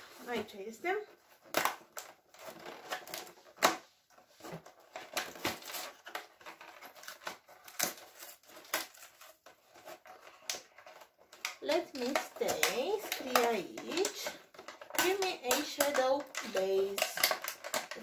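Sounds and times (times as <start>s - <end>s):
fingernails clicking and scraping cardboard: 1.2s - 18.0s.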